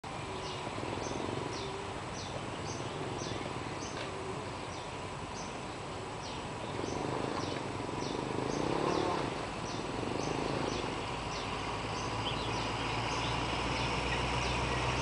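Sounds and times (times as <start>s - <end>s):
distant diesel locomotive rumble: 0.0s - 15.0s.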